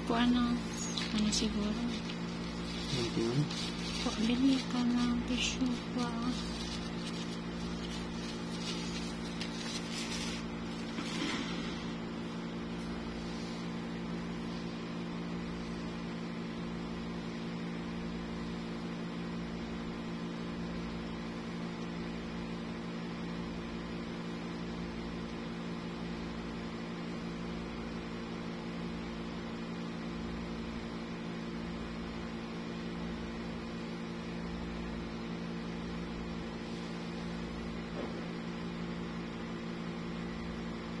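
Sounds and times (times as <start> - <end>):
mechanical hum: 0.0 - 41.0.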